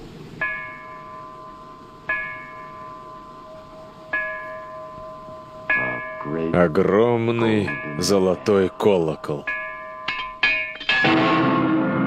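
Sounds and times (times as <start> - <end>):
small metal bell ringing: 0.4 - 11.1.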